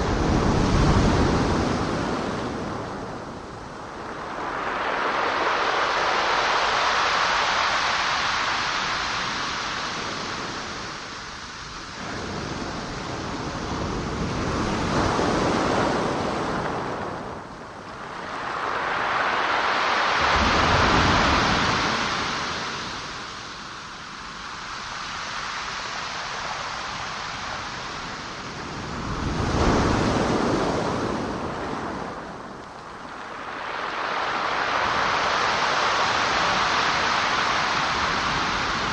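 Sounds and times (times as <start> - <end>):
ocean waves on shore: 0.0 - 38.9.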